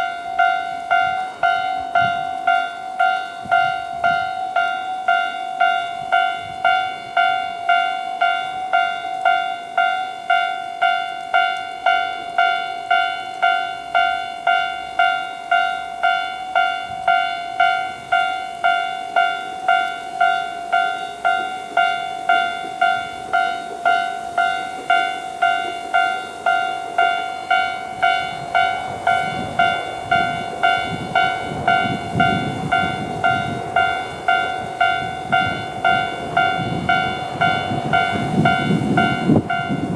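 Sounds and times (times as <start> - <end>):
low rumble of approaching train: 0.0 - 39.9.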